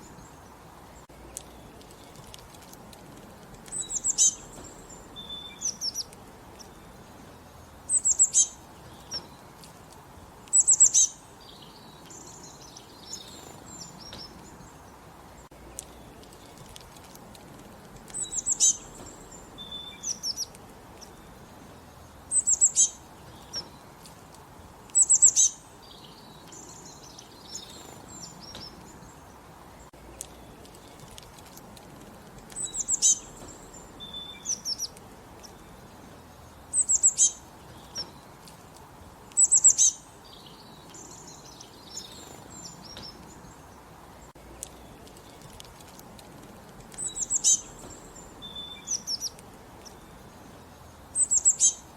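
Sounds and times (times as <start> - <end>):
faint steady hiss: 0.0 - 51.9
songbirds chirping: 0.0 - 51.9.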